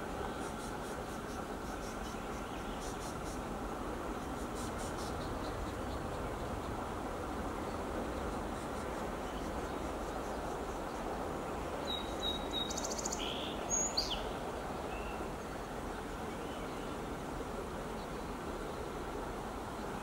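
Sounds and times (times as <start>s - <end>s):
low rushing background noise: 0.0s - 20.0s.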